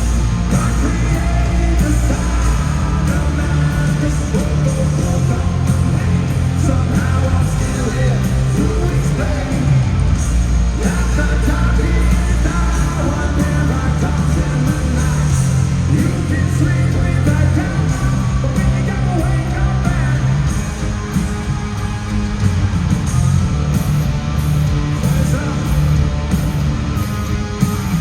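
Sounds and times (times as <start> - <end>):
live hard rock band: 0.0 - 28.0.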